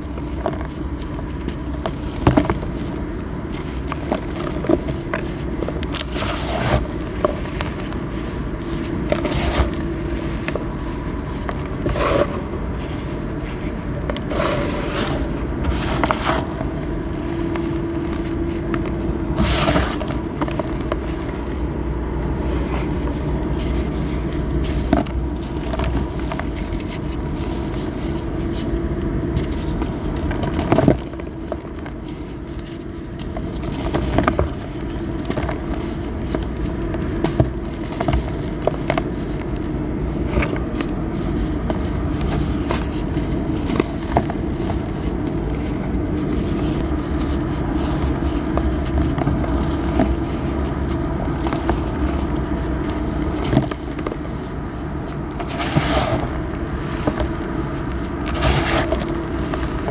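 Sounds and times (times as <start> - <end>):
cement blocks crunching in hands: 0.0 - 59.9.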